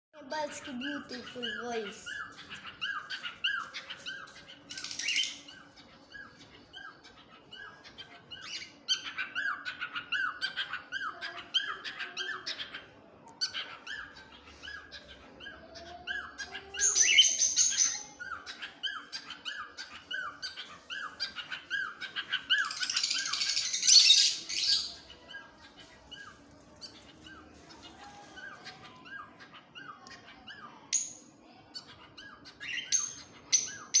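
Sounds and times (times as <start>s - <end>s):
bird chirping: 0.2s - 34.0s.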